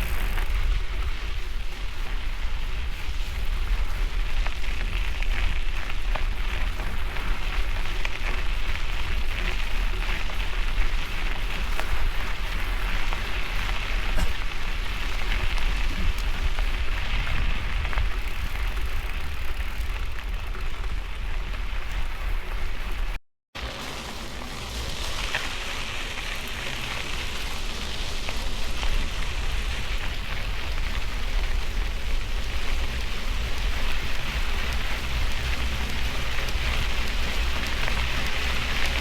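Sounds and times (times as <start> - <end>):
bike tyres rolling on gravel: 0.0 - 39.0
wind rumble on microphone: 0.0 - 39.0.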